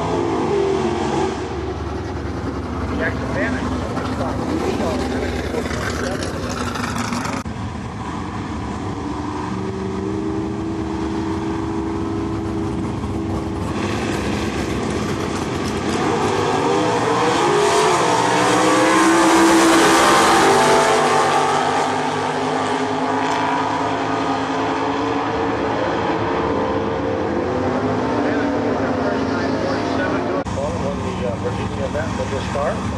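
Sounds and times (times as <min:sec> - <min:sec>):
drag cars accelerating hard: 0:00.0 - 0:32.9.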